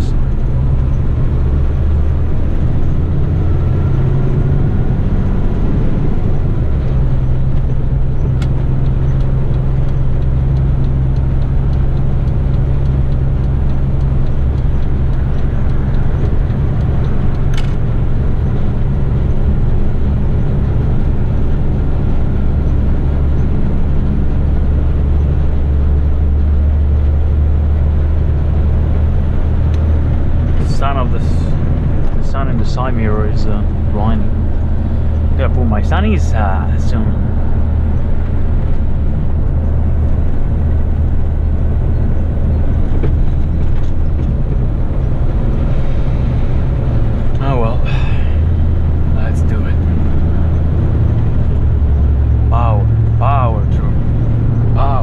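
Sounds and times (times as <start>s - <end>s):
road noise: 0.0s - 55.0s
truck diesel engine running: 0.0s - 55.0s.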